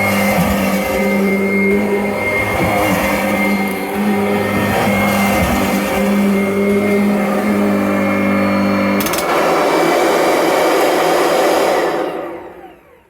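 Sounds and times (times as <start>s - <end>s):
upright vacuum running: 0.0s - 13.0s.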